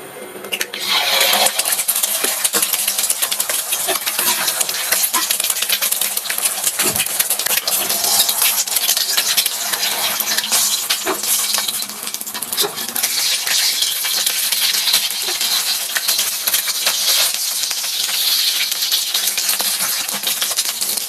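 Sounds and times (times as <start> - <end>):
food sizzling in a pan: 0.7 - 21.0.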